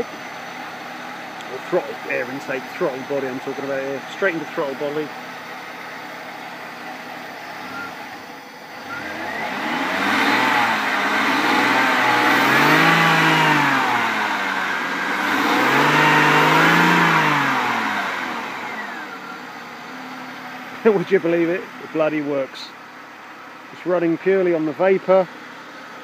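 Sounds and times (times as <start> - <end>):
car engine revving: 0.0 - 22.5.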